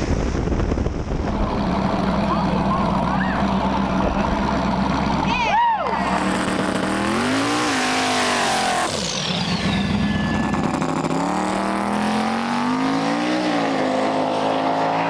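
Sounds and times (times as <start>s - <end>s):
high falling whine: 0.0s - 13.1s
race car engines revving: 1.2s - 15.0s.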